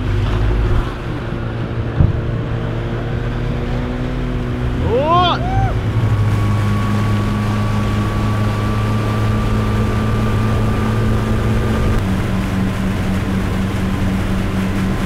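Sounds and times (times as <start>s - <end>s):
motorboat engine running: 0.0s - 15.0s
wind and water rushing: 0.0s - 15.0s.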